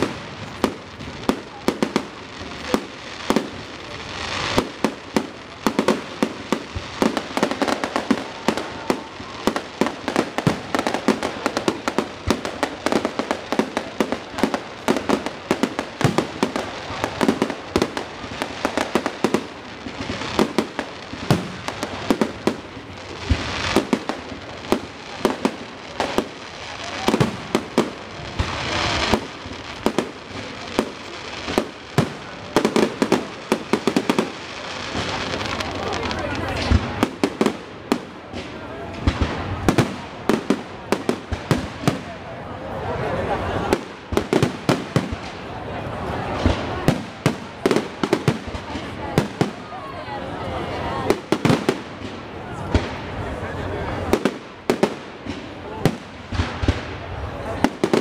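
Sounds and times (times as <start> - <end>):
fireworks bangs and crackles: 0.0 - 58.0
fireworks hissing bursts: 0.0 - 58.0.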